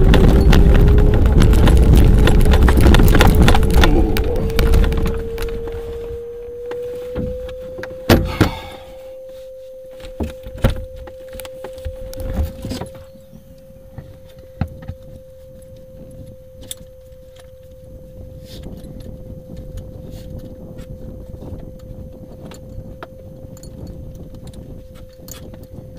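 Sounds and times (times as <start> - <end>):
light aircraft engine running: 0.0 - 25.9.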